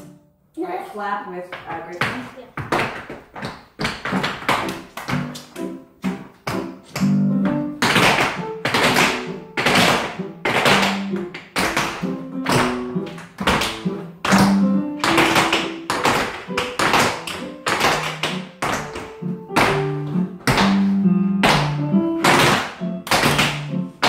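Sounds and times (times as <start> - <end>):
dance shoes tapping on wooden floor: 1.4 - 24.0
music with steady beat: 4.1 - 24.0.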